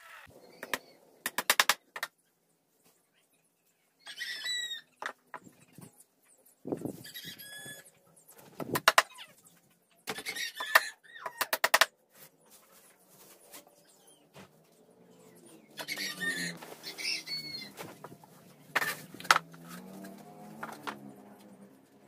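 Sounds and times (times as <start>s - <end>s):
small birds chirping: 0.1s - 11.5s, 12.2s - 19.2s.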